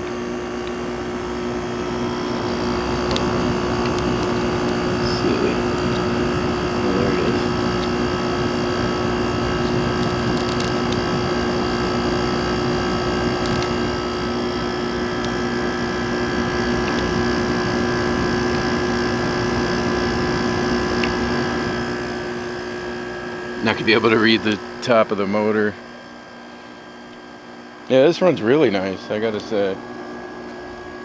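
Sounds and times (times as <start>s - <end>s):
air conditioner humming: 0.0s - 31.0s.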